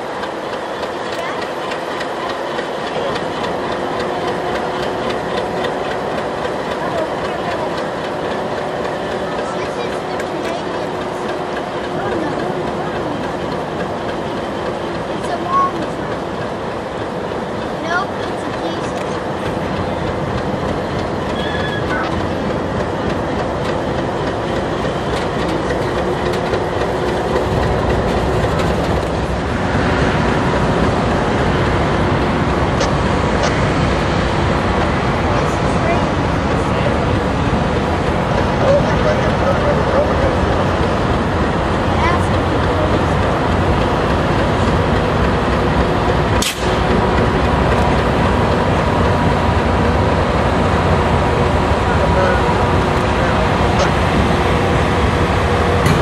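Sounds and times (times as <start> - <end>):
train rumble: 0.0 - 56.0
train wheels clicking over rail joints: 0.0 - 56.0.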